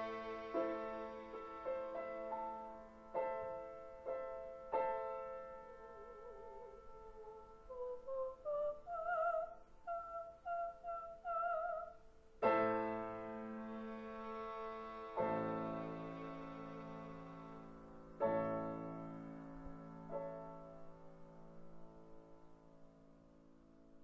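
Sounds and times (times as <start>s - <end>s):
classical piano music: 0.0s - 9.4s, 12.4s - 24.0s.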